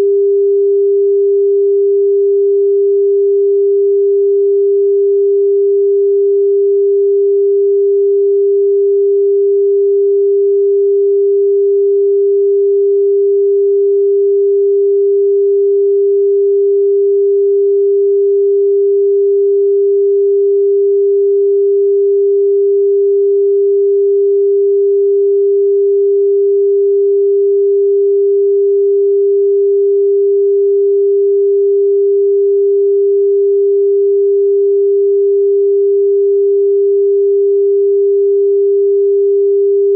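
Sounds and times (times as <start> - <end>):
steady pure sine tone: 0.0 - 39.9.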